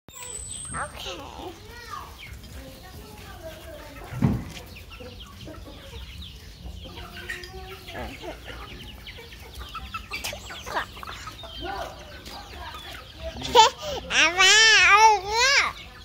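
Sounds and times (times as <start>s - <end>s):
chickens clucking: 0.2s - 16.0s.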